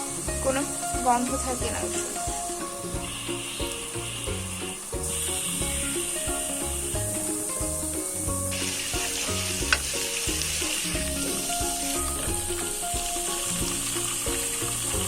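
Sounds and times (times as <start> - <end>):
background music with beat: 0.0 - 15.0
garlic sizzling in oil: 0.0 - 15.0.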